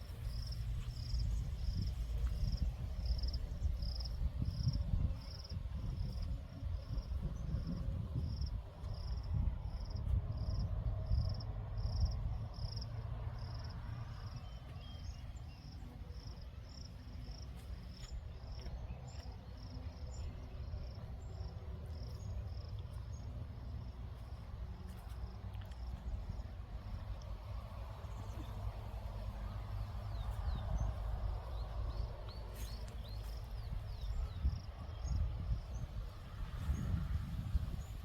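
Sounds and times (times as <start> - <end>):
cricket chirping: 0.0 - 38.0.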